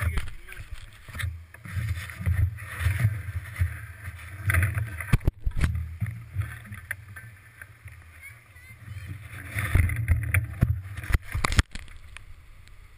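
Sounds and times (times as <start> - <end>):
bike rolling rumble: 0.0 - 12.9.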